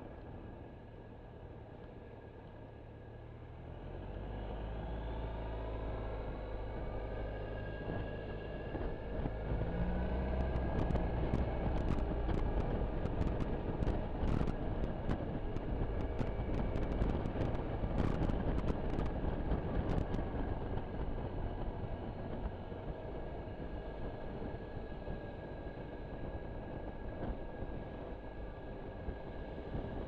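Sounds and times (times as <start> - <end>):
wind and road noise: 0.0 - 30.0.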